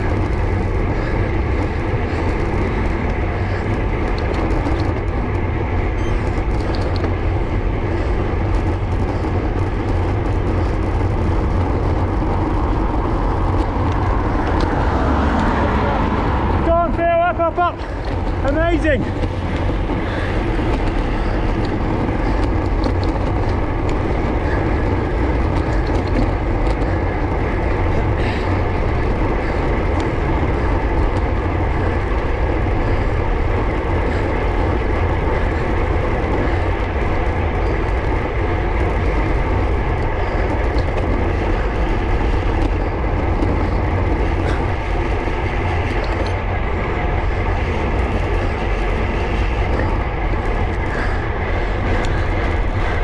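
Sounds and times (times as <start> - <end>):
tyres humming on tarmac: 0.0 - 53.0
wind rushing over microphone: 0.0 - 53.0.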